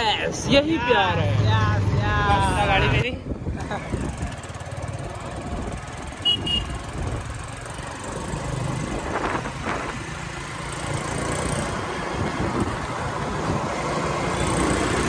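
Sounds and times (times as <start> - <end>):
road and wind noise: 0.0 - 15.0
scooter engine hum: 0.2 - 15.0.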